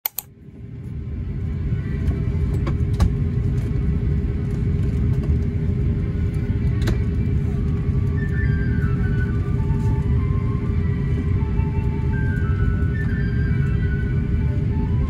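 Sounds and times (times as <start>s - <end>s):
moving vehicle rumble: 0.4s - 15.0s.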